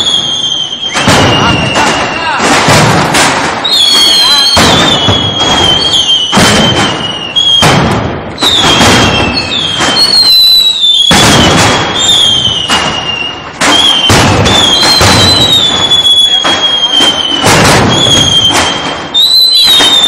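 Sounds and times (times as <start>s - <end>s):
high whistling tone: 0.0s - 2.4s, 3.6s - 7.7s, 8.4s - 20.0s
firecrackers banging: 0.0s - 20.0s.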